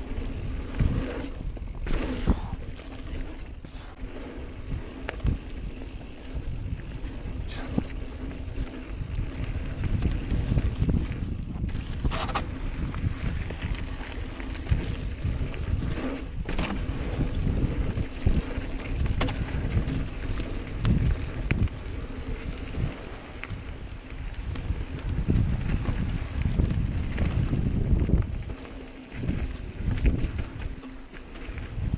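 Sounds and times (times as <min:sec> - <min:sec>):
bike clicks and rattles: 0:00.0 - 0:31.9
wind buffeting microphone: 0:00.0 - 0:31.9.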